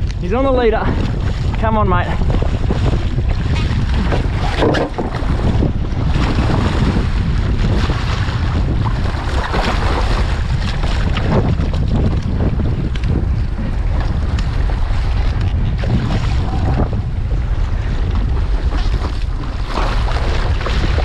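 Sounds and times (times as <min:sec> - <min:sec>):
wind buffeting microphone: 0:00.0 - 0:21.0
water splashing: 0:00.6 - 0:21.0.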